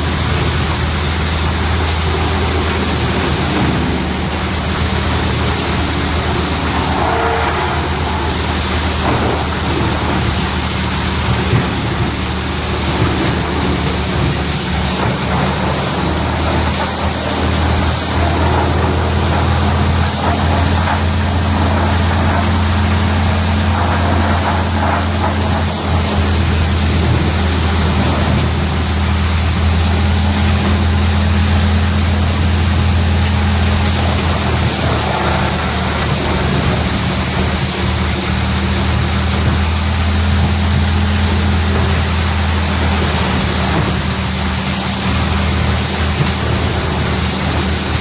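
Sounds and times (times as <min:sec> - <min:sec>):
wood chipper running: 0:00.0 - 0:48.0.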